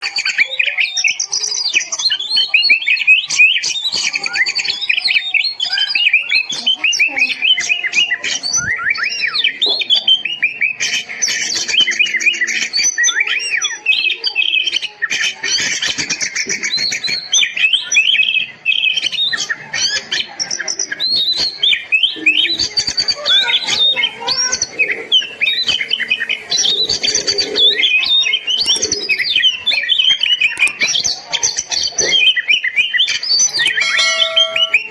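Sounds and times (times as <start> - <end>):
bird singing whistles and trills: 0.0 - 34.9.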